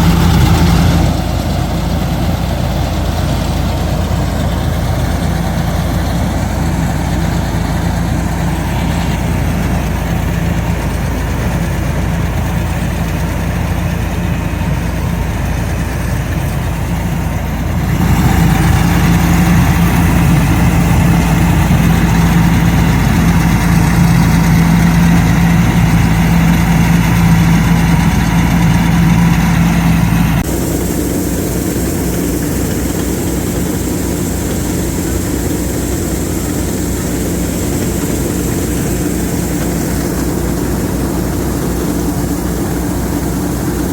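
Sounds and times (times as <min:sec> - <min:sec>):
combine harvester engine humming: 0:00.0 - 0:43.9.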